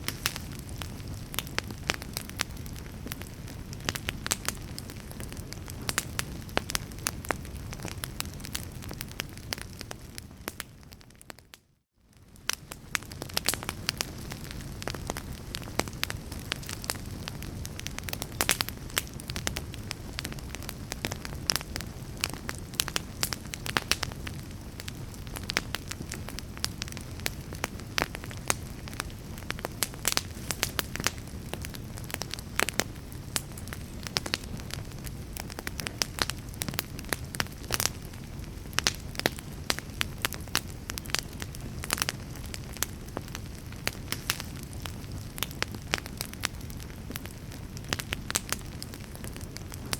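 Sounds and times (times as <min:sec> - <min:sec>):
fire popping and snapping: 0:00.0 - 0:49.9
wood fire crackling: 0:00.0 - 0:49.9.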